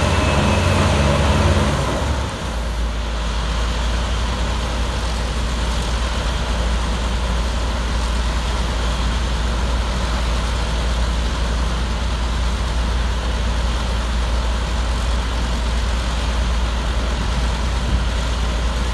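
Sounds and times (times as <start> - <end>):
hovercraft engine drone: 0.0 - 18.9.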